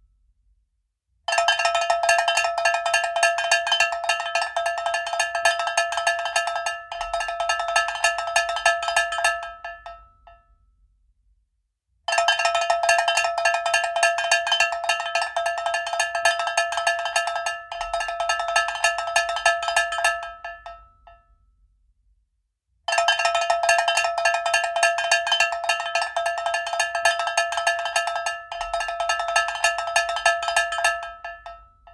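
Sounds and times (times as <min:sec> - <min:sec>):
cowbell clanking rapidly: 0:01.3 - 0:09.9, 0:12.1 - 0:20.8, 0:22.9 - 0:31.6.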